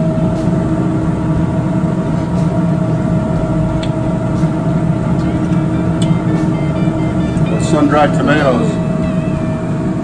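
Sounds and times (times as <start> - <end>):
kitchen equipment drone: 0.0 - 10.0.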